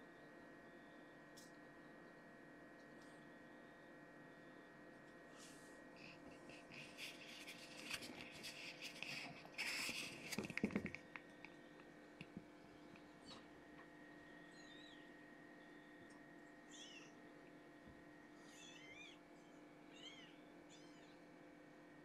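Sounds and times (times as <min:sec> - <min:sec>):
steady electric hum: 0:00.0 - 0:22.0.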